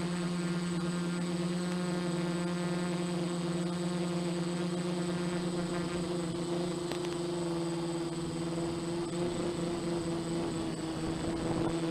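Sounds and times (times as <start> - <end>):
quadcopter propellers buzzing: 0.0 - 11.9.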